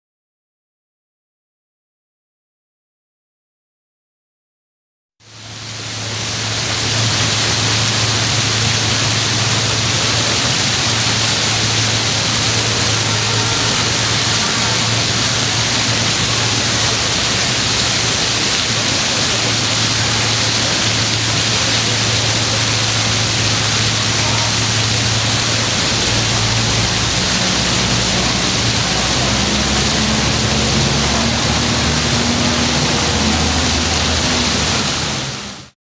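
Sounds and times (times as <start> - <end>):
fountain water splashing: 5.2 - 35.8.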